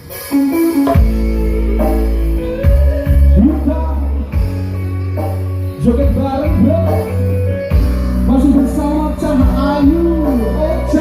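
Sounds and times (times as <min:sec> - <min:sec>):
heavy bass line: 0:00.0 - 0:11.0
keyboard sustained chords: 0:00.9 - 0:11.0.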